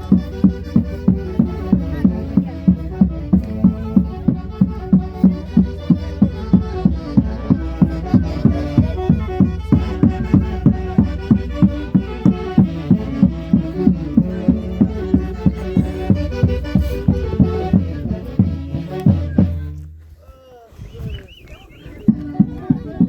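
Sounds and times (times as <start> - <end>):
fast drum beat: 0.0 - 19.6
folk orchestra dance music: 0.0 - 20.1, 21.6 - 23.0.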